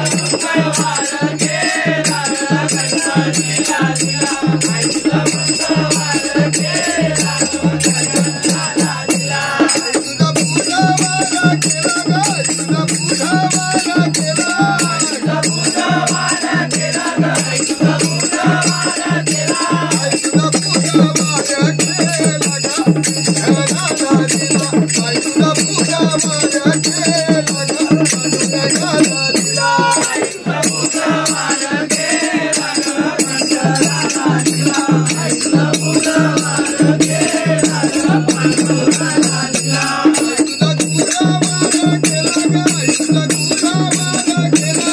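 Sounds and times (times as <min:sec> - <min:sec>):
hand drum: 0:00.0 - 0:44.9
men singing together: 0:00.0 - 0:44.9
small brass hand cymbals: 0:00.0 - 0:44.9.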